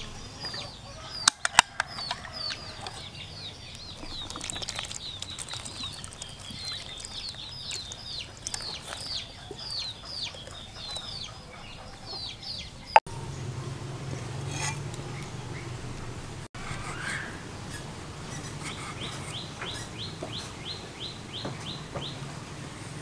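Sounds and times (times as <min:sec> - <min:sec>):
chicks cheeping: 0:00.0 - 0:15.8, 0:16.7 - 0:22.3.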